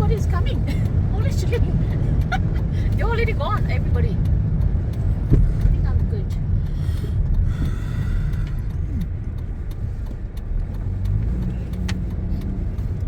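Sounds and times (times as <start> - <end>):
car engine and tyre rumble: 0.0 - 13.0
faint ticks: 0.1 - 13.0.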